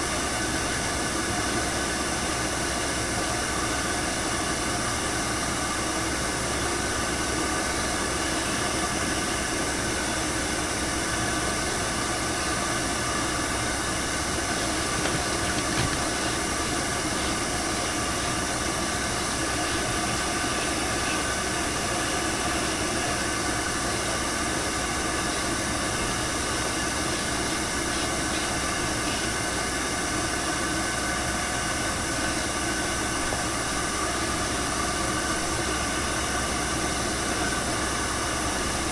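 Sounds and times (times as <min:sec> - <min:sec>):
blower rushing with faint whine: 0:00.0 - 0:38.9.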